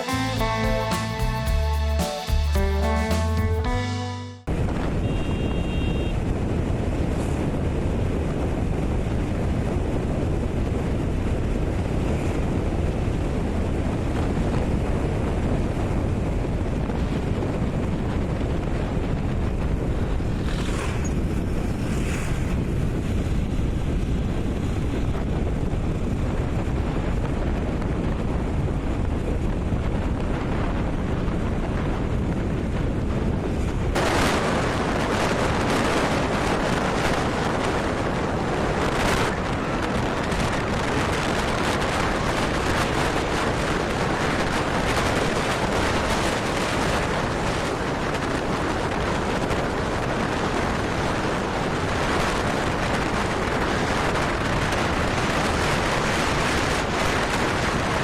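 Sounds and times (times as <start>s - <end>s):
wind buffeting microphone: 6.1s - 58.0s.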